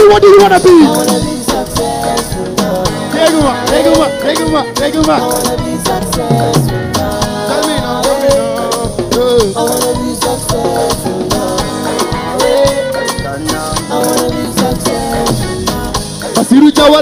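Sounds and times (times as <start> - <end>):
live band music: 0.3 - 17.0.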